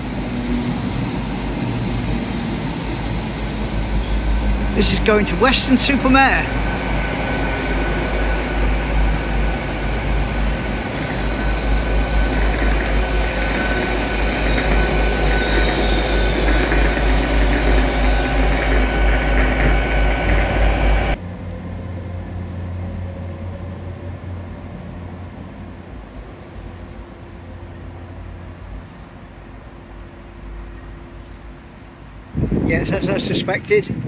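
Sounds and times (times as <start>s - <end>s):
wheels squealing on rails: 0.0s - 29.0s
train low rumble: 0.0s - 34.0s.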